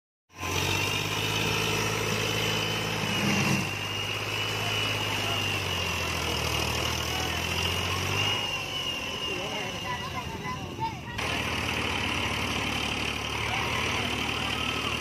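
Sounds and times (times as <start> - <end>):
tractor diesel engine running: 0.3 - 15.0
steady high whine: 0.4 - 15.0.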